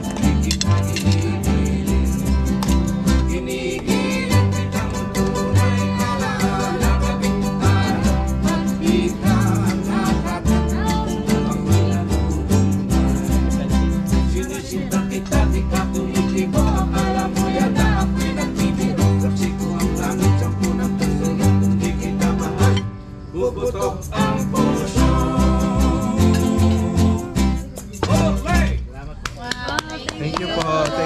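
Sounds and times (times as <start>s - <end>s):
walking bass line: 0.0s - 23.0s, 23.9s - 28.9s
person singing: 0.0s - 28.5s
strummed acoustic guitars: 0.0s - 28.8s.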